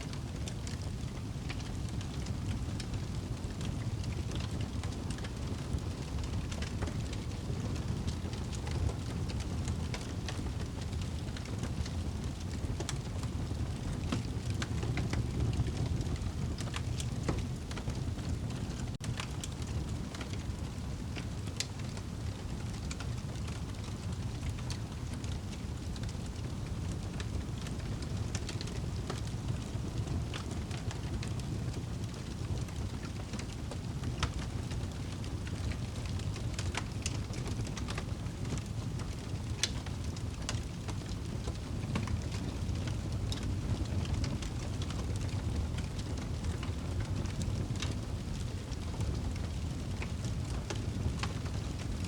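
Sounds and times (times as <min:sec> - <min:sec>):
wood fire crackling: 0:00.1 - 0:52.0.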